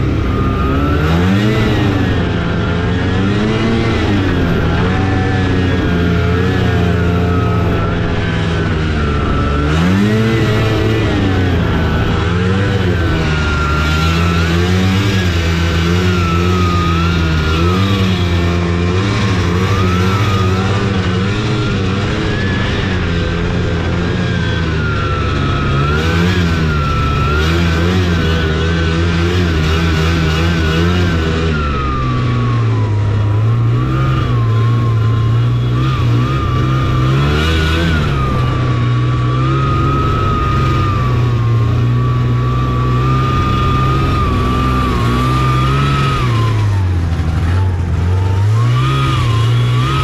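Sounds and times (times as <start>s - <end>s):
high whine: 0.0s - 50.0s
snowmobile engine revving: 0.0s - 50.0s.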